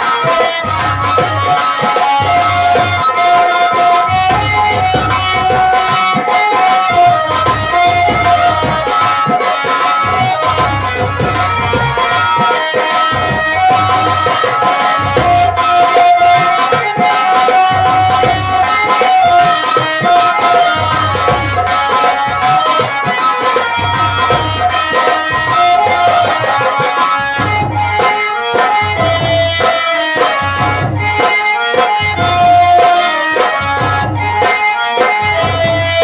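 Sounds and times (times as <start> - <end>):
drums beating steady rhythm: 0.0 - 36.0
wavering instrumental melody: 0.0 - 36.0.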